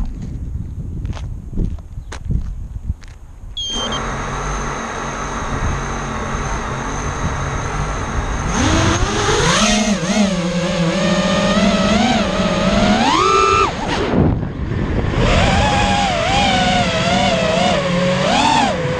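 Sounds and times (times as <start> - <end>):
quadcopter motors whining: 3.6 - 18.9.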